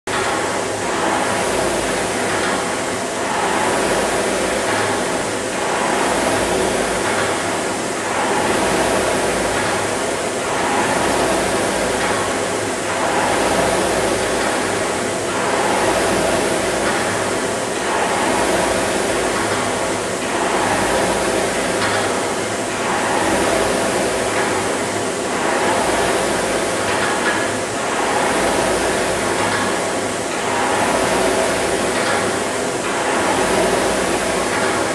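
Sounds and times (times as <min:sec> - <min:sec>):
rowing machine whooshing: 0:00.1 - 0:34.9.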